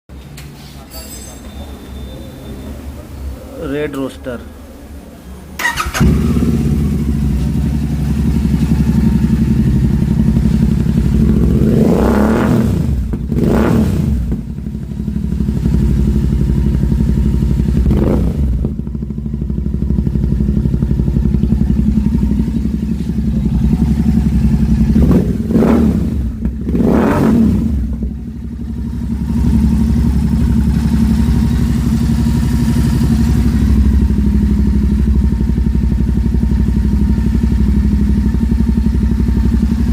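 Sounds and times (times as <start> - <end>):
motorcycle engine idling and revving: 4.7 - 39.9.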